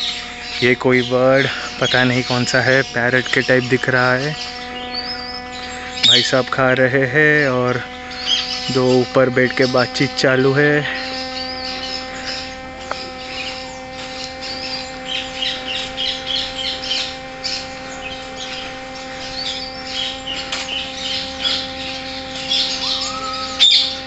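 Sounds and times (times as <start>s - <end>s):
birds twittering and chirping: 0.0s - 24.0s
steady low hum: 0.0s - 24.0s.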